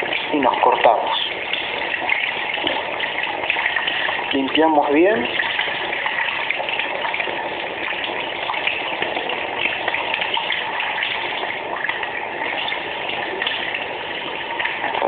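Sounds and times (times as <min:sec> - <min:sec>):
running water splashing on knife: 0:00.0 - 0:15.0.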